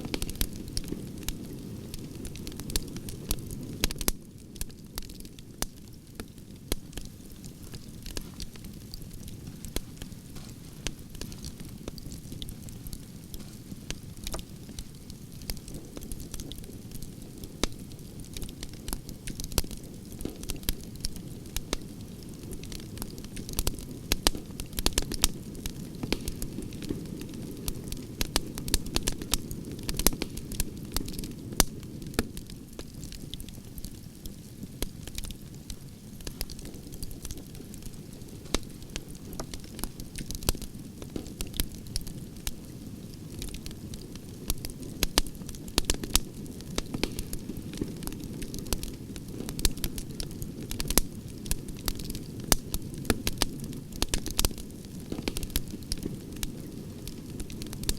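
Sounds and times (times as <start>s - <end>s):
campfire crackling and popping: 0.0s - 57.9s
low rumble of flames: 0.0s - 57.9s.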